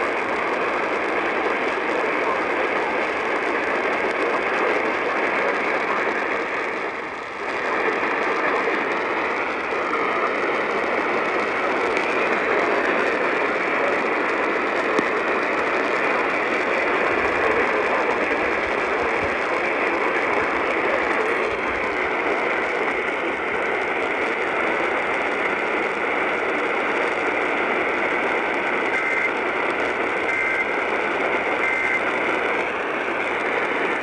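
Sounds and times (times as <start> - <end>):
radio static hissing: 0.0 - 34.0.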